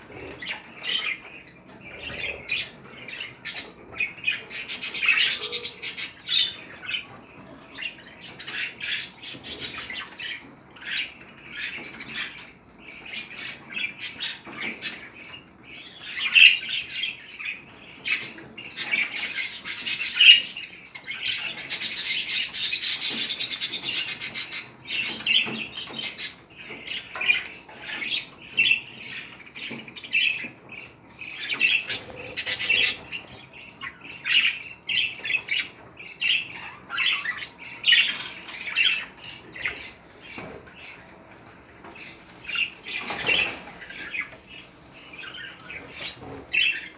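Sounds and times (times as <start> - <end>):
budgerigars chattering: 0.0 - 46.9.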